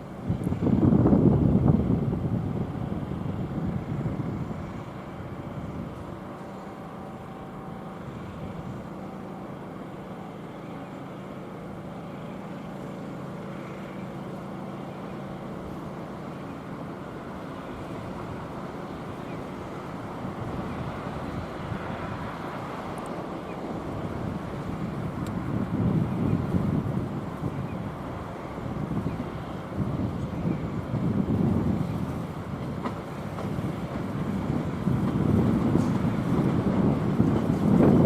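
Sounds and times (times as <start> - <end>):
wind buffeting microphone: 0.0 - 9.6, 14.5 - 38.0
train mechanical hum: 0.0 - 38.0.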